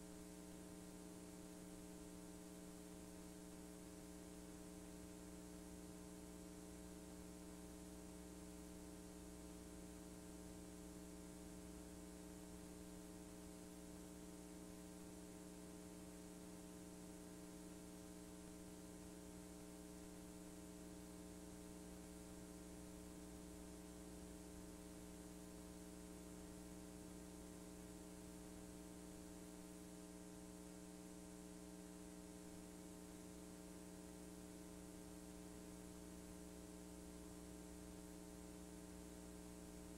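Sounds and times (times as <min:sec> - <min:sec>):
faint electrical hum: 0:00.0 - 0:39.9
soft tape hiss: 0:00.0 - 0:39.9.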